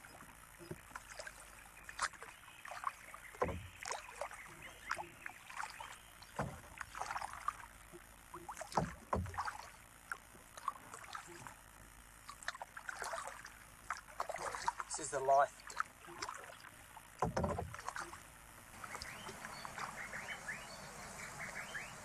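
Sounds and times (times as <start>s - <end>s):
water dripping and splashing: 0.0s - 11.6s, 12.2s - 21.9s
paddle dipping into water: 0.0s - 22.0s.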